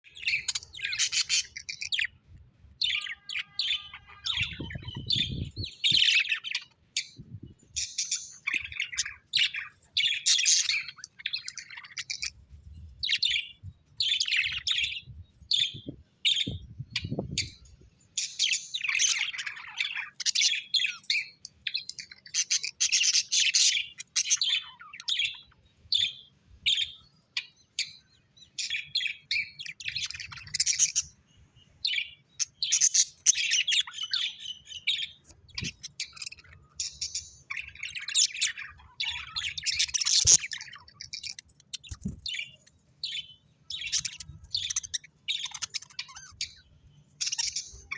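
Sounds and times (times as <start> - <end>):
small birds chirping and twittering: 0.0 - 47.9.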